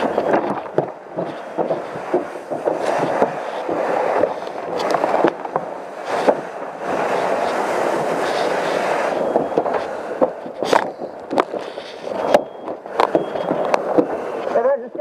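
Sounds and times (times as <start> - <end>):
fire crackles and pops: 0.0 - 15.0
fire rushing: 0.0 - 15.0.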